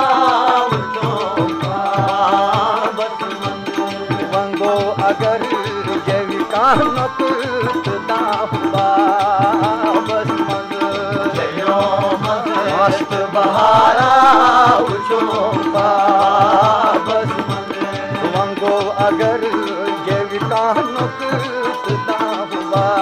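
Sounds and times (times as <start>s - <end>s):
tabla steady beat: 0.0s - 23.0s
wavering folk melody: 0.0s - 23.0s.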